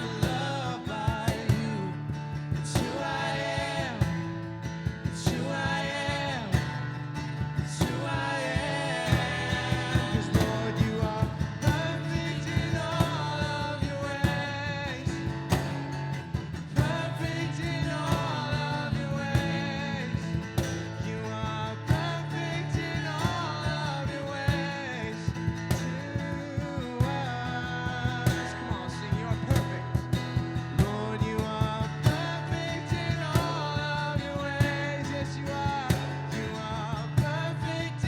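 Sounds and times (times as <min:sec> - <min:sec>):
bass: 0:00.0 - 0:38.0
drum beat: 0:00.0 - 0:38.0
guitar: 0:00.0 - 0:38.0.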